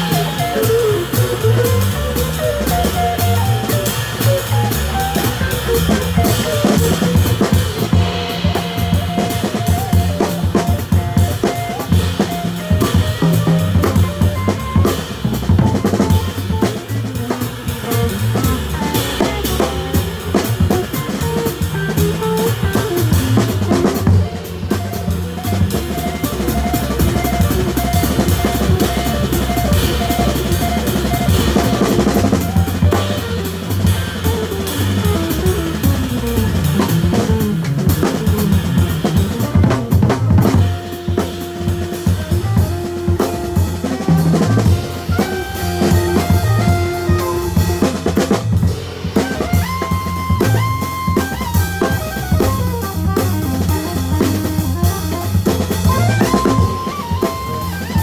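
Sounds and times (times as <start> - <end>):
drums and cymbals: 0.0 - 58.0
small jazz band playing: 0.0 - 58.0
upright double bass: 0.0 - 58.0.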